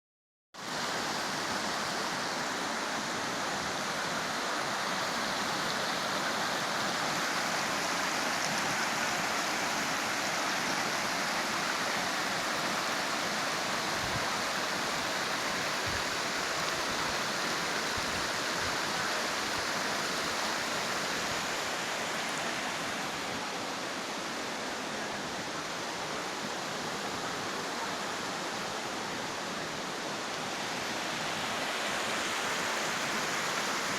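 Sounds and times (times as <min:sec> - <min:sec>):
waterfall rushing: 0:00.6 - 0:33.9.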